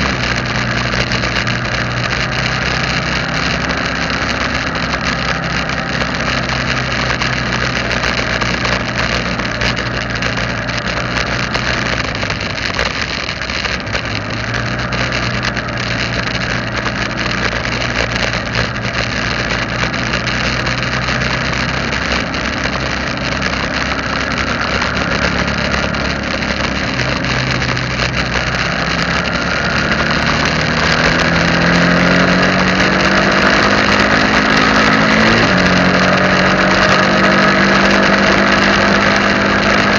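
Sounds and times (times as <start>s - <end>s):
road and wind hiss: 0.0s - 39.9s
vehicle engine running: 0.0s - 39.9s.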